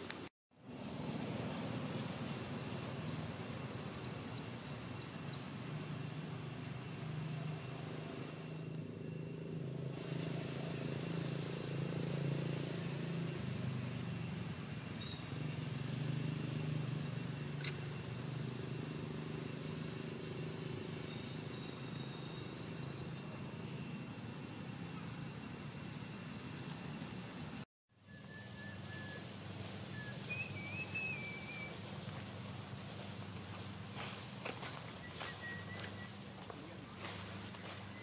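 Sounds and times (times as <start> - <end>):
distant engines rumbling: 0.0 - 38.0.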